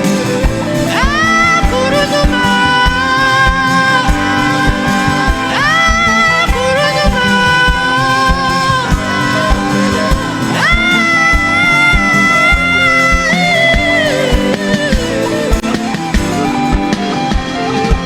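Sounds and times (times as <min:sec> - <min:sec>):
gospel singing: 0:00.0 - 0:17.3
band playing steady beat: 0:00.0 - 0:18.0.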